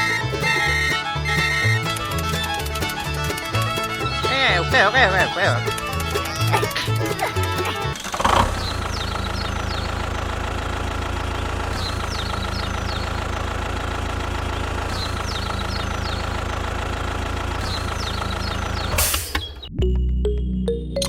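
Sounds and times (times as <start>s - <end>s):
engine idling: 0.0s - 19.1s.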